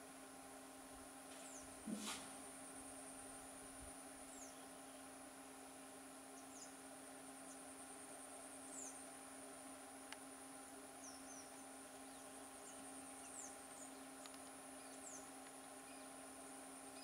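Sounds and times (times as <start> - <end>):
insect drone: 0.0 - 17.0
low steady hum: 0.0 - 17.0.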